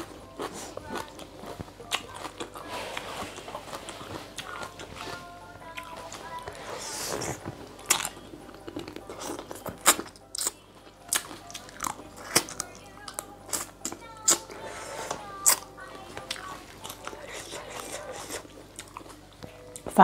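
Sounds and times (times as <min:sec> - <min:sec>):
chewing with sharp crunches: 0:00.0 - 0:19.9.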